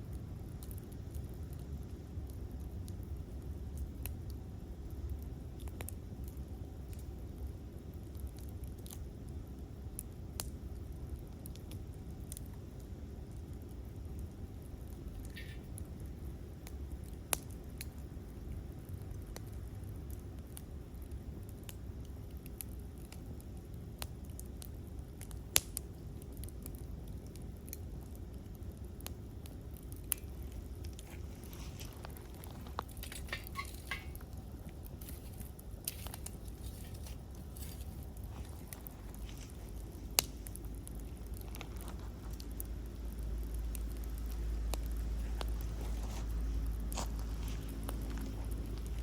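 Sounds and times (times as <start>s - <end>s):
campfire crackling: 0.0s - 49.0s.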